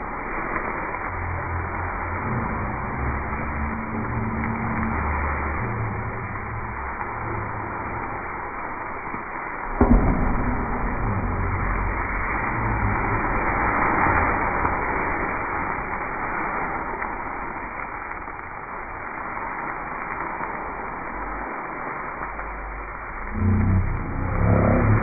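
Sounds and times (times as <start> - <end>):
flames flaring up: 0.0 - 25.0
vegetables sizzling in wok: 0.0 - 25.0.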